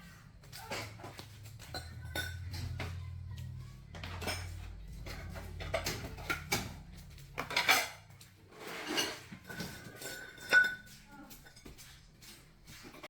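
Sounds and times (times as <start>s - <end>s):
hard objects clinking and knocking: 0.4s - 11.8s.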